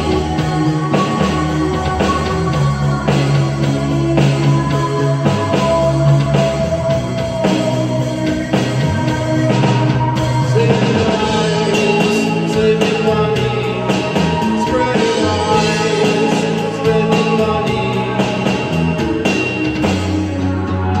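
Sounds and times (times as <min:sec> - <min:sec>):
bass guitar: 0:00.0 - 0:21.0
drum kit: 0:00.0 - 0:21.0.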